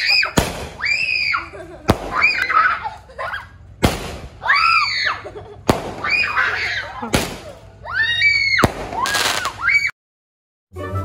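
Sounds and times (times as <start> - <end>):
fireworks bangs: 0.0 - 2.8, 3.7 - 9.9
fireworks shrieks: 0.0 - 10.0.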